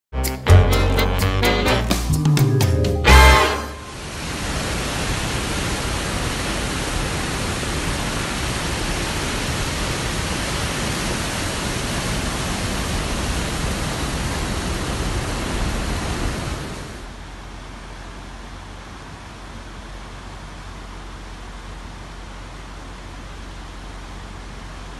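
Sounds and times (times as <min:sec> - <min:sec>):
flood water rushing: 0:03.1 - 0:24.9.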